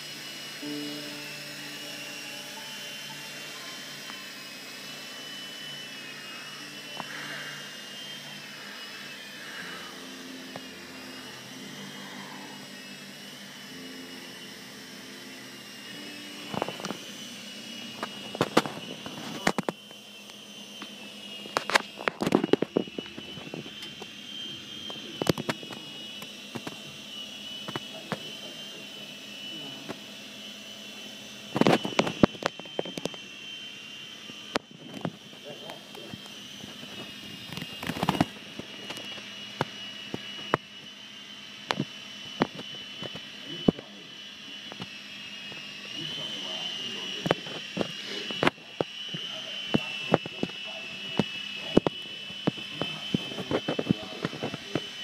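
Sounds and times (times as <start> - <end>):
rc helicopter rotors whining: 0.0 - 55.0.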